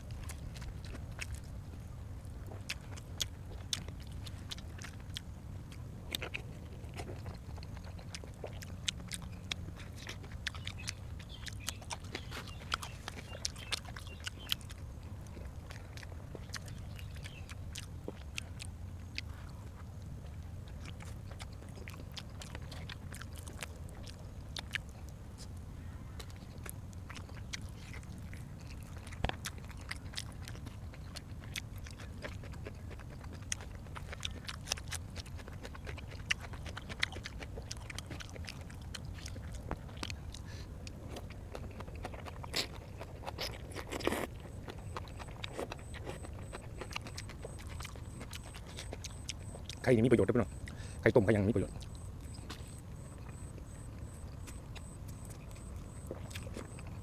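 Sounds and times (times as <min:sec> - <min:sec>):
person chewing and biting food: 0:00.0 - 0:57.0
steady low hum: 0:00.0 - 0:57.0.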